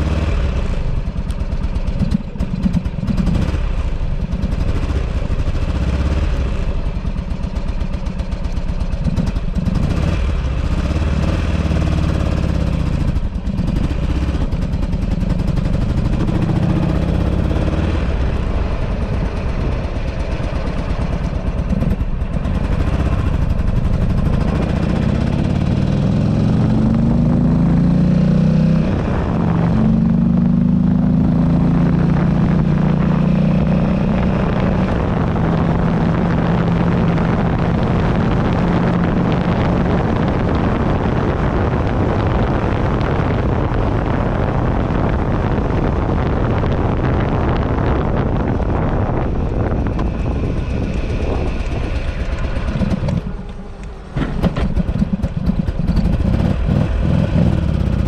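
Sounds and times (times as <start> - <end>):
motorcycle engine accelerating: 0.0 - 58.0
wind noise on microphone: 8.8 - 58.0.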